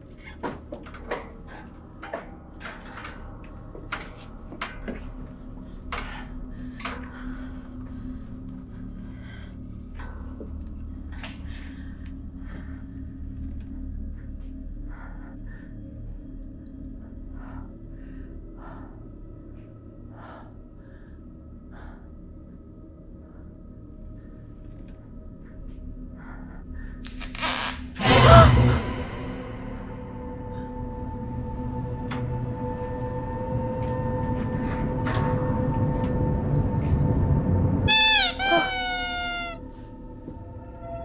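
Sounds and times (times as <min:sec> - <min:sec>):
dark ambient music drone: 0:00.0 - 0:37.9, 0:39.6 - 0:41.0.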